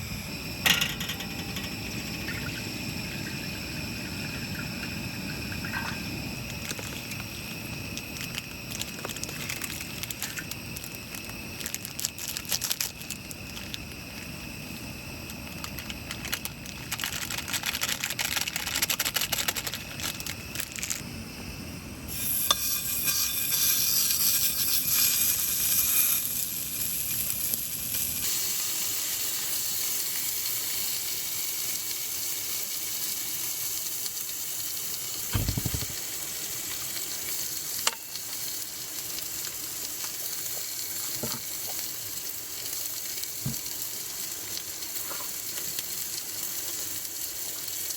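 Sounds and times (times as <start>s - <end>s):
food sizzling and crackling: 0.0s - 47.9s.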